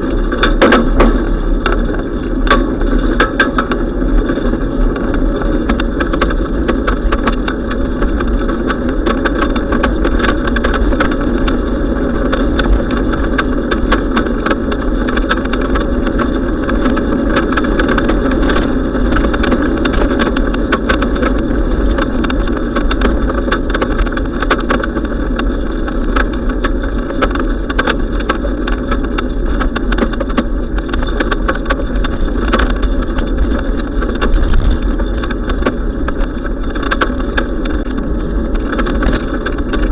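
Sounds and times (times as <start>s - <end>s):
bicycle clicks and rattles: 0.0s - 39.9s
bicycle rolling noise: 0.0s - 39.9s
wind: 0.0s - 39.9s.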